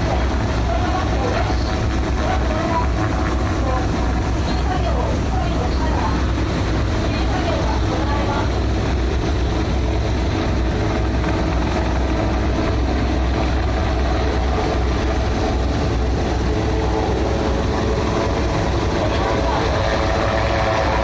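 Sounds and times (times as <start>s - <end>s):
loud low engine drone: 0.0s - 21.0s.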